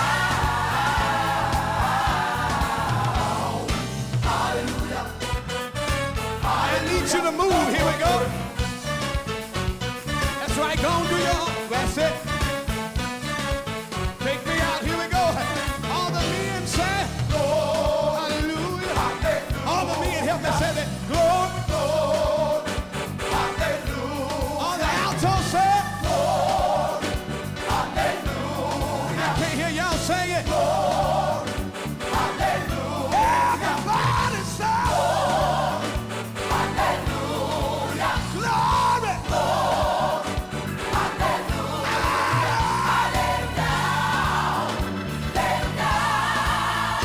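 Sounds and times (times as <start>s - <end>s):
choir singing: 0.0s - 9.1s, 15.9s - 47.0s
band playing: 0.0s - 47.0s.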